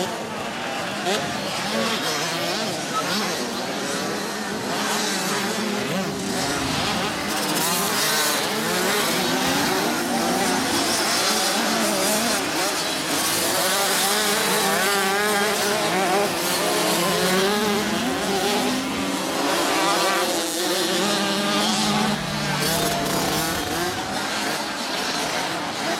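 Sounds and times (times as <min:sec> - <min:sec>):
minibike engines revving: 0:00.0 - 0:25.9.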